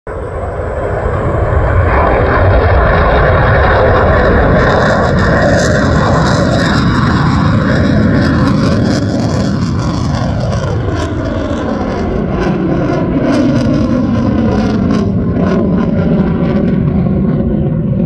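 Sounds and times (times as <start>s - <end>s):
fighter jet engines roaring: 0.1s - 18.0s.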